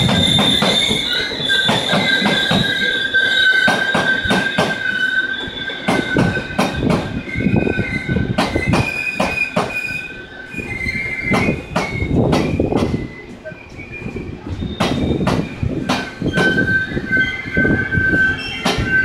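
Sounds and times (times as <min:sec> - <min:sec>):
higher wheel squeal: 0:00.0 - 0:19.0
train wheels squealing: 0:00.0 - 0:19.0.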